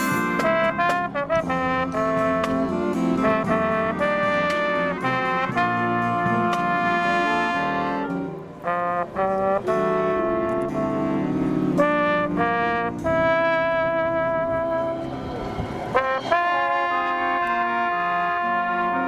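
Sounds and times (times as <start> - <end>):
brass band playing: 0.0 - 19.0.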